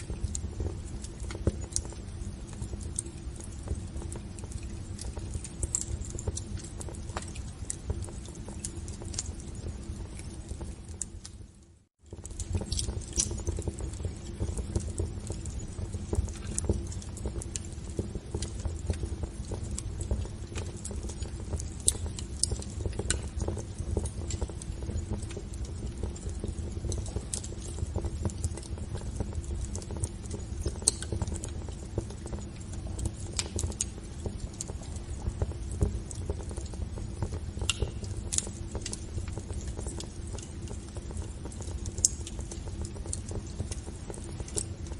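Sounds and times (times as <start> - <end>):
faint steady hum: 0.0 - 44.9
low rumble of flames: 0.0 - 44.9
wood fire crackling and popping: 0.0 - 44.9.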